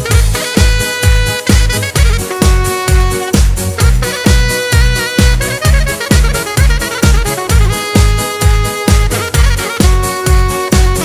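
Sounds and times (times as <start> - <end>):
keyboards: 0.0 - 11.0
kick drum: 0.0 - 11.0
melodic lead line: 0.0 - 11.0.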